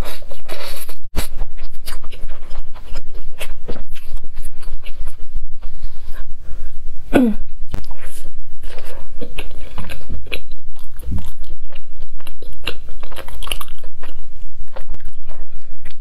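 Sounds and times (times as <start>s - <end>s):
chewing bread: 0.0s - 6.9s, 7.7s - 16.0s.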